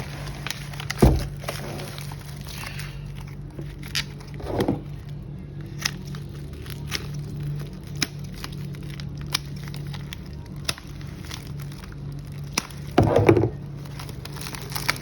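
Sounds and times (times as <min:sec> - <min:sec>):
packaging crackling rustle: 0:00.0 - 0:15.0
steady low hum: 0:00.0 - 0:15.0.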